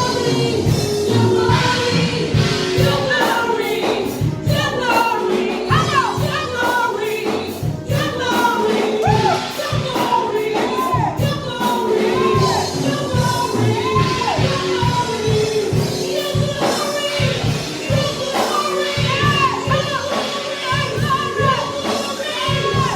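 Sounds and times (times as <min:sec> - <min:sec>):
gospel singing: 0:00.0 - 0:22.9
steady beat: 0:00.0 - 0:22.9.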